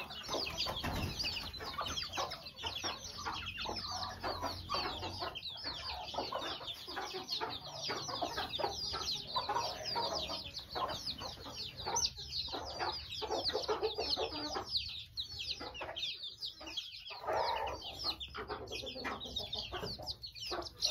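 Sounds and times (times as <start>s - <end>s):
chicks peeping: 0.0s - 20.9s
hens clucking: 0.0s - 20.9s.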